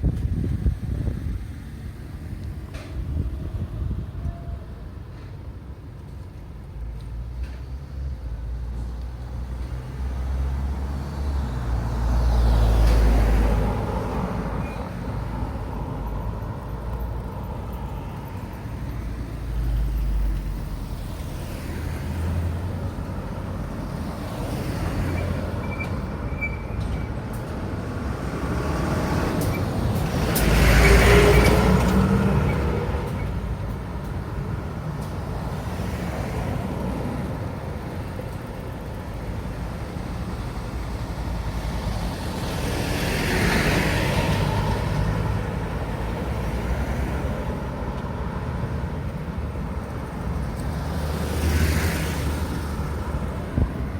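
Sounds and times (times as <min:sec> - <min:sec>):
cars and trucks driving past: 0:00.0 - 0:53.9.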